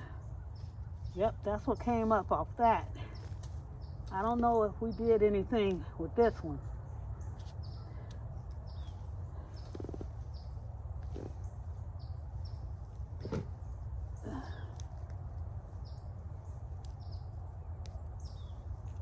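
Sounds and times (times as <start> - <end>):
bird chirping: 0.0 - 19.0
soil rustling: 0.0 - 19.0.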